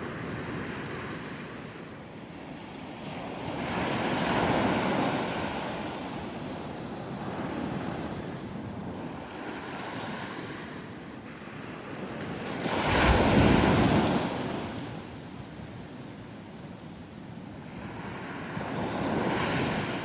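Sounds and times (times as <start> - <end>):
surf washing on shore: 2.4 - 20.0.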